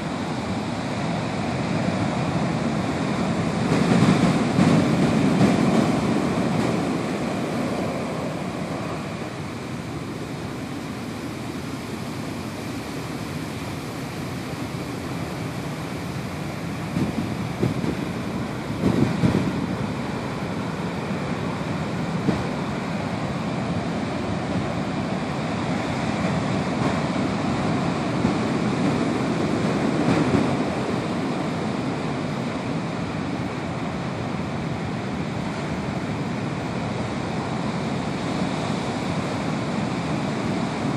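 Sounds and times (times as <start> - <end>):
ocean waves crashing: 0.0 - 40.9.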